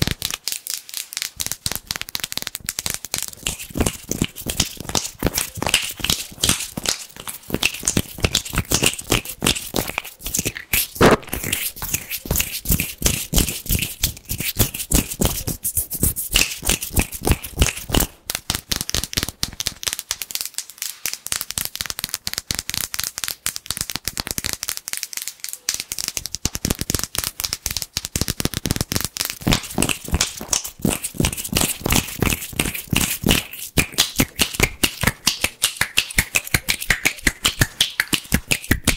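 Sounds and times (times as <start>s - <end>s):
hands rubbing and tapping: 0.0s - 38.9s.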